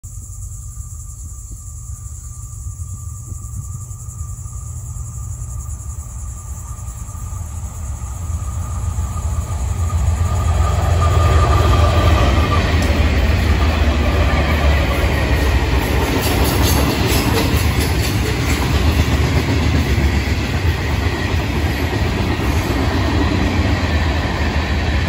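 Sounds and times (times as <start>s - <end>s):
diesel locomotive rumble: 0.2s - 25.0s.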